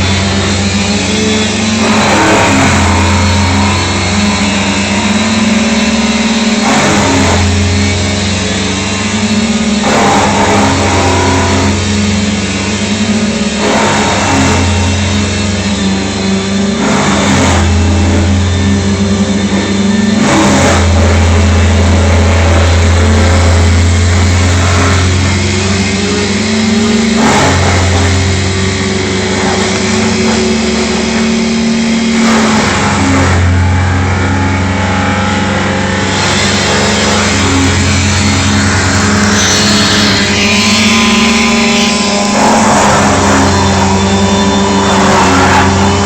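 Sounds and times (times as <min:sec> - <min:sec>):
engine running loudly: 0:00.0 - 0:46.0.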